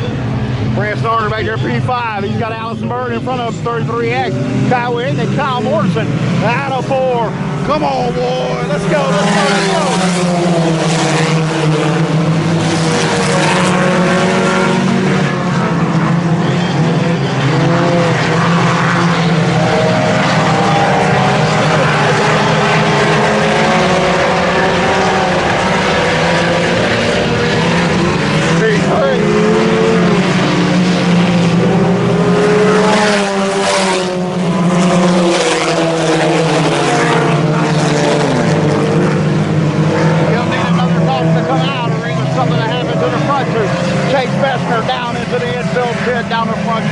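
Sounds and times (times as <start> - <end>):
race car engines droning: 0.0 - 46.9.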